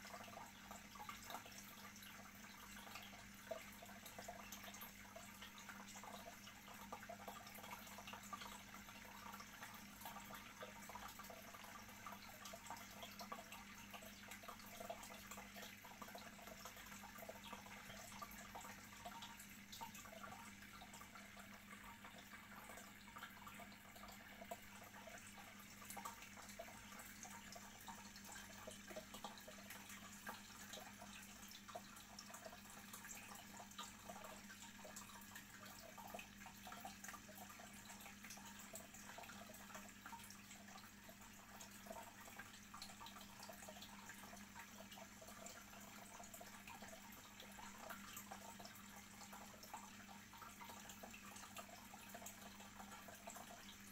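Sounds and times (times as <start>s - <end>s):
aquarium water bubbling: 0.0s - 53.9s
low steady hum: 0.0s - 53.9s.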